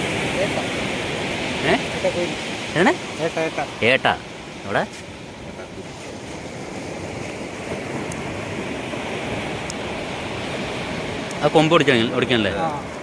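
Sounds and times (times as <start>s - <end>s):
waves breaking on shore: 0.0s - 13.0s.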